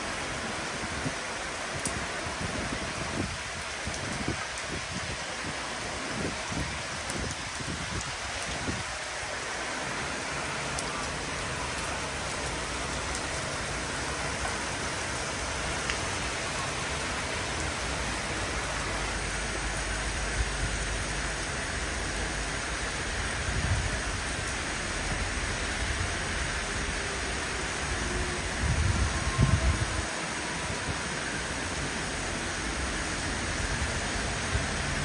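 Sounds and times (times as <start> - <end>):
heavy rain splashing: 0.0 - 35.0.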